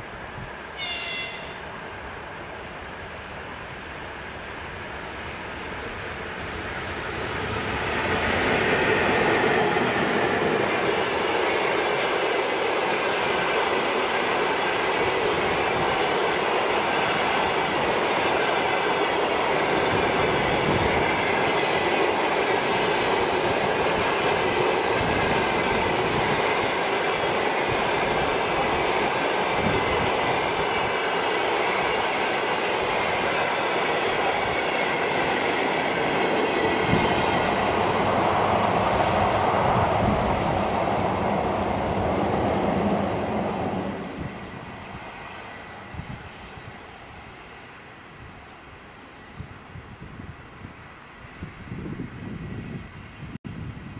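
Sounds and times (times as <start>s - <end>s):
passenger train passing: 0.0s - 53.9s.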